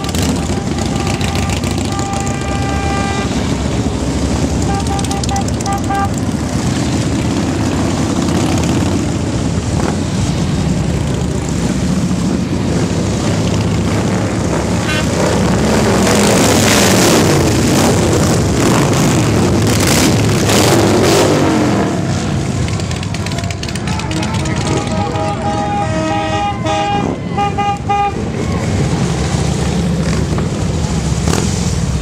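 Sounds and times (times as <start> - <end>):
motorcycles riding past: 0.0 - 32.0.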